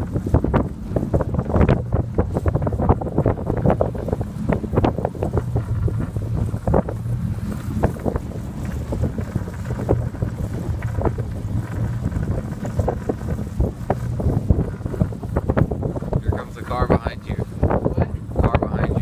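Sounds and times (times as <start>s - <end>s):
pickup truck driving rumble: 0.0s - 19.0s
wind buffeting microphone: 0.0s - 19.0s.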